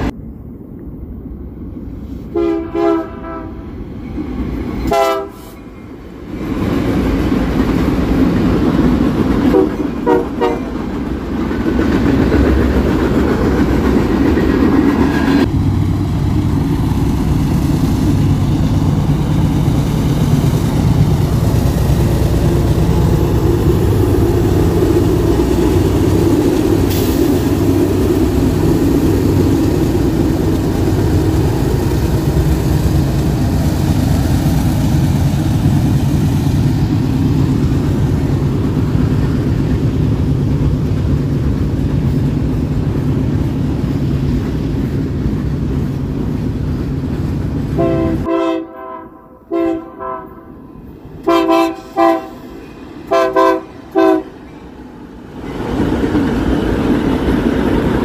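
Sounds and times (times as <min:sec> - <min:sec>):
diesel locomotive engine drone: 0:00.0 - 0:58.0
train passing with heavy rumble: 0:00.0 - 0:58.0.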